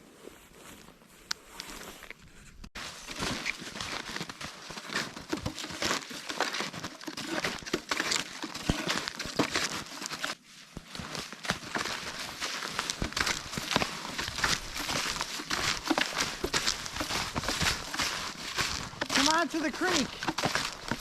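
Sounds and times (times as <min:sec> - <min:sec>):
snowshoes crunching through snow: 0:00.0 - 0:02.1, 0:02.8 - 0:21.0.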